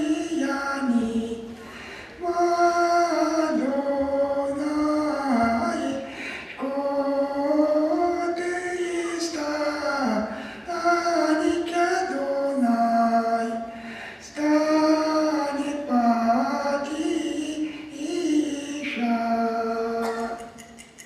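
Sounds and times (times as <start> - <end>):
person singing slow melody: 0.0 - 21.0.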